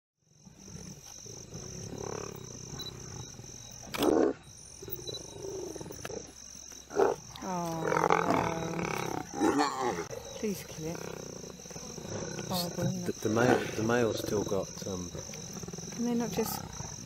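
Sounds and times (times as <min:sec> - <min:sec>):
crickets chirping: 0:00.2 - 0:17.0
lions growling: 0:00.4 - 0:17.0.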